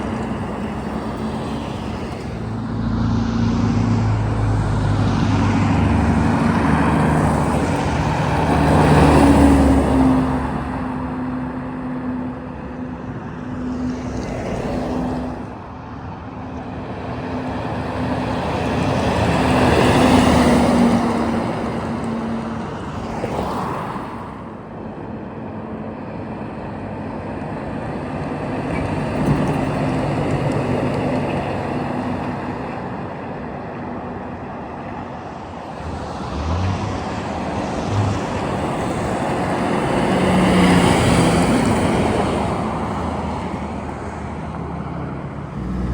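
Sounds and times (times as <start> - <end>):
trucks and cars passing: 0.0 - 45.9.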